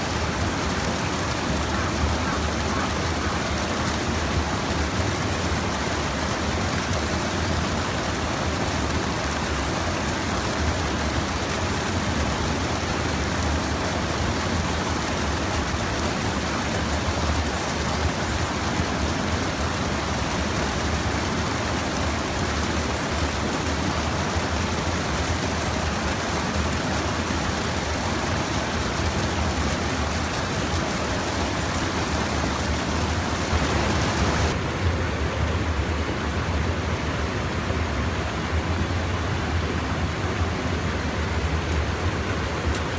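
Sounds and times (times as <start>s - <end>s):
stream water pouring over dam: 0.0s - 42.9s.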